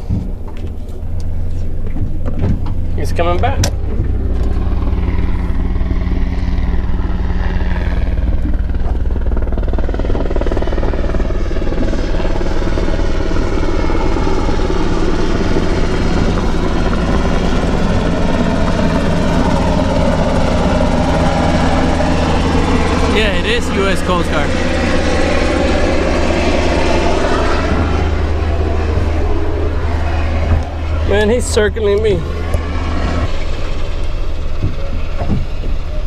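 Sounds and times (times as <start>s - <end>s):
helicopter rotor and engine: 0.0s - 36.0s
steady low hum: 0.0s - 36.0s.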